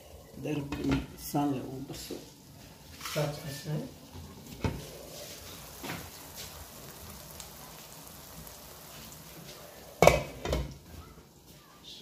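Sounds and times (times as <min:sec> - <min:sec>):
faint sizzle in a frying pan: 0:00.0 - 0:12.0.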